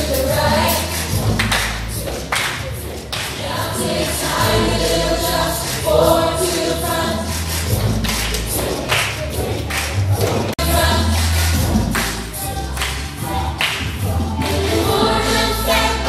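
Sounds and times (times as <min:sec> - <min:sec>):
young voices singing: 0:00.0 - 0:08.0, 0:10.3 - 0:16.0
drum beat: 0:00.0 - 0:15.4
bass notes: 0:00.0 - 0:16.0.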